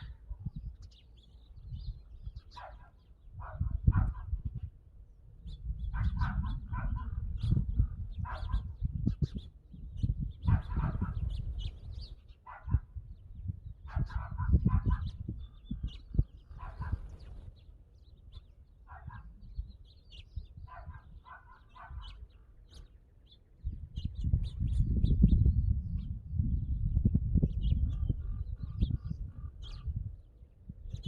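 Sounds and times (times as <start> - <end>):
birds calling harshly: 0.0 - 4.8, 5.4 - 26.8, 27.5 - 31.0.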